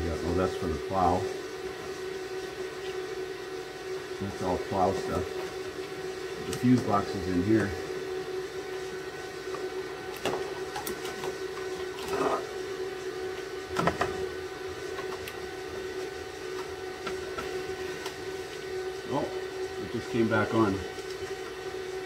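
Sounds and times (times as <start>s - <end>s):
steady electric hum: 0.0s - 22.0s.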